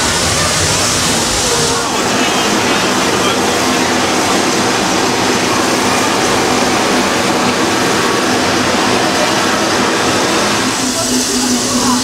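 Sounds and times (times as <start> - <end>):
steam locomotive rushing: 0.0 - 12.0.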